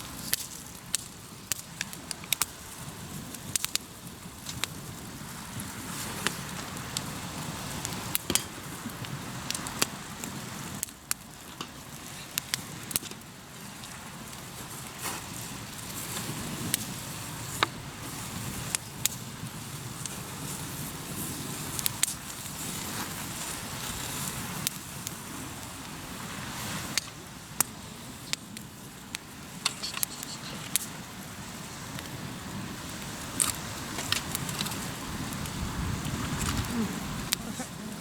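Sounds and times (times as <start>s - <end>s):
campfire crackling and popping: 0.0s - 38.0s
steady rushing hiss: 0.0s - 38.0s.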